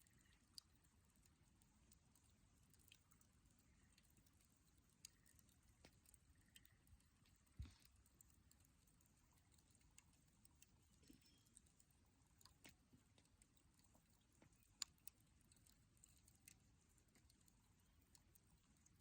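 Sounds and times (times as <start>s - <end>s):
campfire crackling: 0.0s - 19.0s
faint low background noise: 0.0s - 19.0s.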